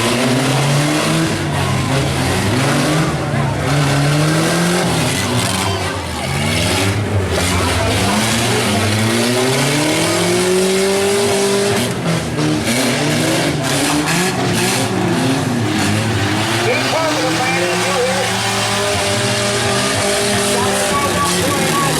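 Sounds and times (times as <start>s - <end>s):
vehicle engines revving: 0.0s - 21.9s.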